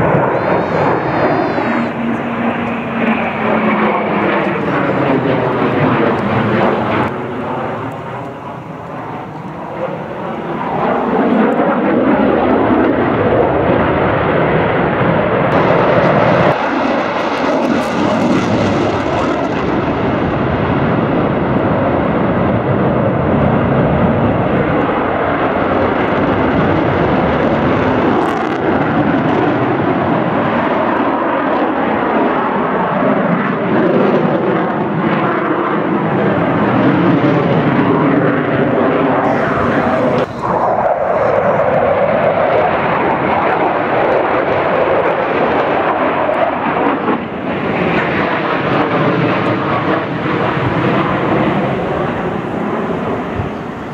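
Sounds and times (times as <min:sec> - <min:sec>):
jet engine roar: 0:00.0 - 0:53.9.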